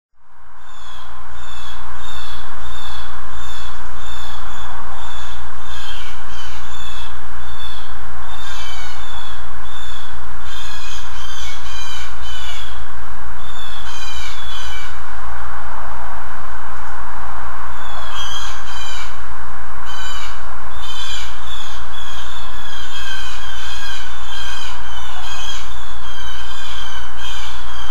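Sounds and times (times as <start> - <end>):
low hum and hiss: 0.2 - 27.9
blue jays calling: 0.6 - 15.3, 16.0 - 27.9.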